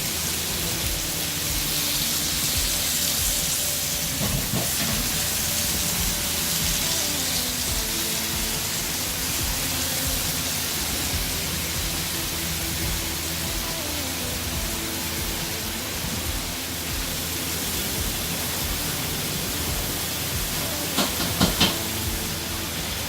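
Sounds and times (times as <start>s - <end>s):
chicken sizzling in grill pan: 0.0s - 23.0s
soft background music: 0.0s - 23.0s.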